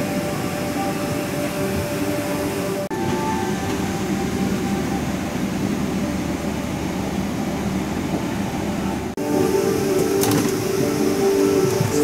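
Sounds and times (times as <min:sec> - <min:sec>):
cabin ventilation rush and hum: 0:00.0 - 0:12.0
faint whine: 0:00.0 - 0:12.0.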